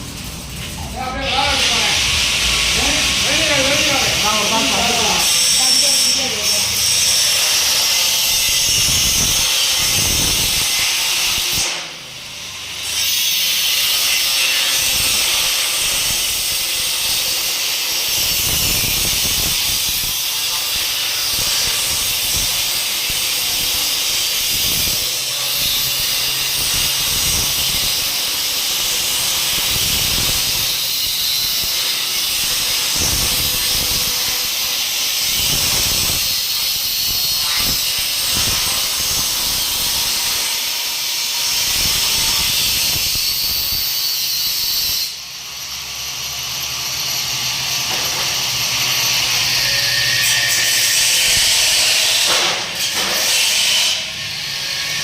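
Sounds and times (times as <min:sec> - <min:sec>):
arc welding hiss: 0:00.0 - 0:46.3, 0:46.9 - 0:55.0.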